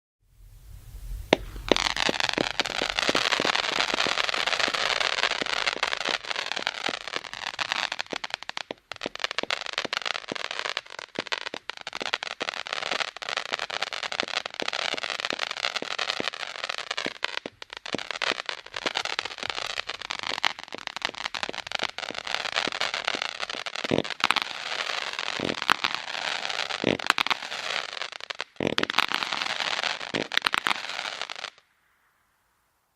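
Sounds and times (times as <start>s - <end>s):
fireworks cake crackling: 0.4s - 31.8s.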